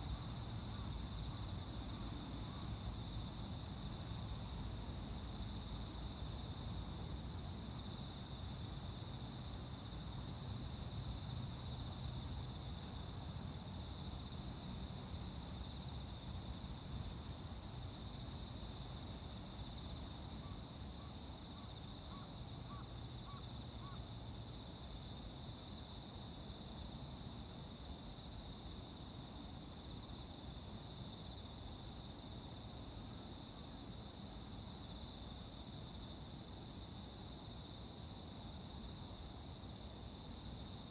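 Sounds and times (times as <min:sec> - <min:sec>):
insects chirping in high trill: 0:00.0 - 0:40.9.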